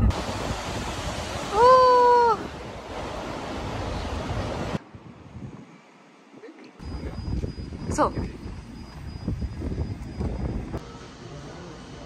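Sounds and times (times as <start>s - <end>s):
wind buffeting microphone: 0.0s - 5.8s, 6.8s - 10.8s.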